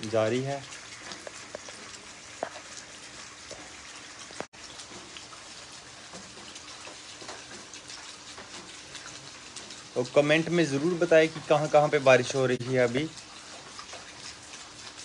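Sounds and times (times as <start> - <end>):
rain on concrete: 0.0 - 15.0
water drips: 0.0 - 15.0.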